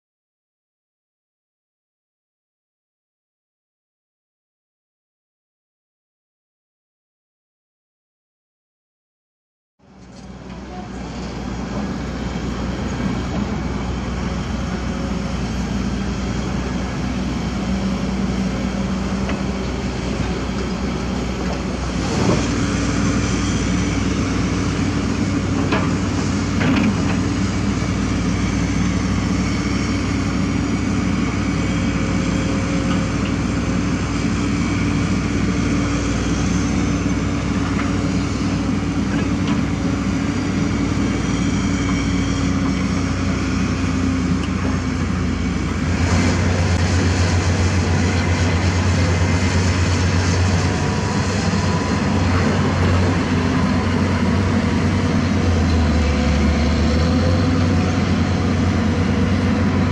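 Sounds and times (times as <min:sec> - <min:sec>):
diesel engines running: 0:09.8 - 0:59.9.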